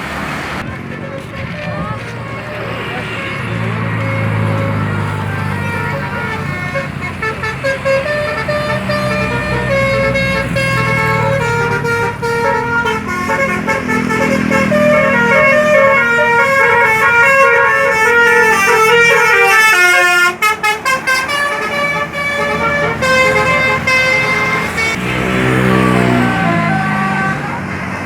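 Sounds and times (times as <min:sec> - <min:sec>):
bus engine running: 0:00.0 - 0:28.0
multi-tone bus horn melody: 0:00.0 - 0:28.0.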